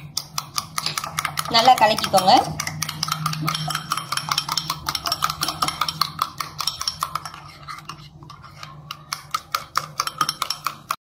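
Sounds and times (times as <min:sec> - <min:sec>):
spoon beating eggs in glass bowl: 0:00.0 - 0:11.0.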